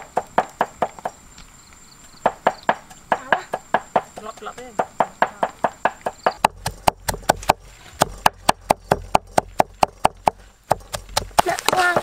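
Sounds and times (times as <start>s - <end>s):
cleaver chopping on cutting board: 2.2s - 12.0s.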